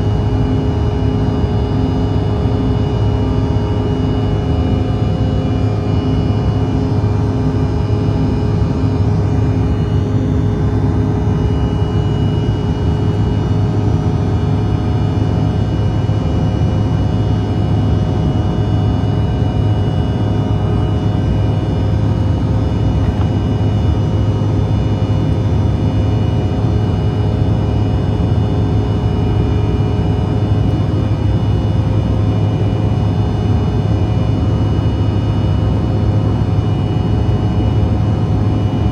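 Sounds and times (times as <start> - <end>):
airliner cabin engine drone: 0.0 - 38.9
high-pitched engine whine: 0.0 - 38.9.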